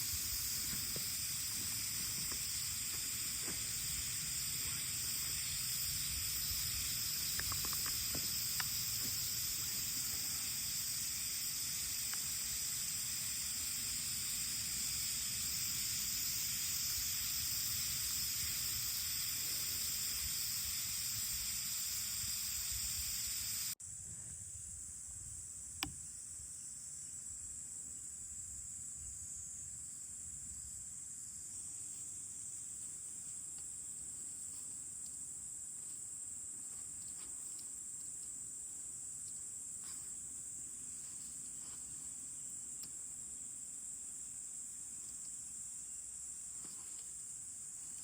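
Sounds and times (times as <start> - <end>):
insect chorus: 0.0 - 48.0.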